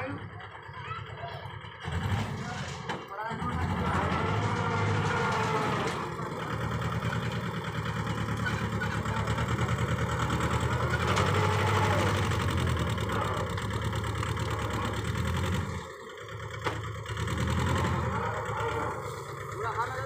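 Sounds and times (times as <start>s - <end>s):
small tractor engine running: 0.0s - 20.0s.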